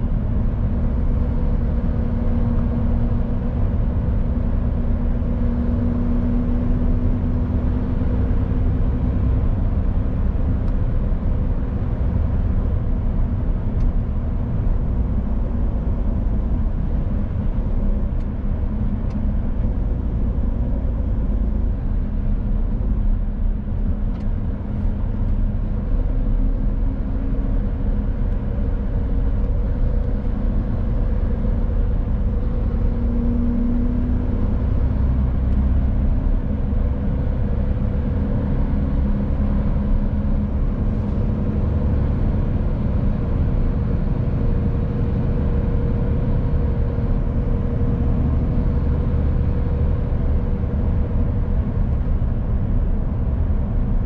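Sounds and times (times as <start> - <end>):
road noise rumble: 0.0 - 54.0
truck diesel engine droning: 0.0 - 54.0.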